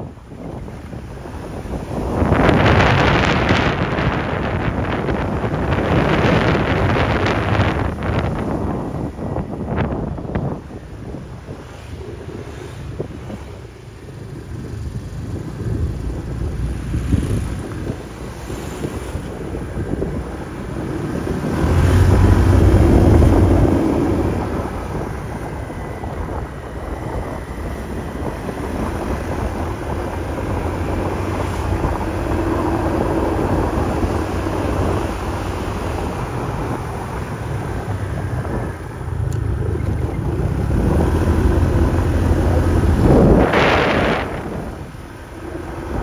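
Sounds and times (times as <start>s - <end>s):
road noise: 0.0s - 46.0s
scooter engine humming: 0.0s - 46.0s
wind buffeting microphone: 0.0s - 46.0s.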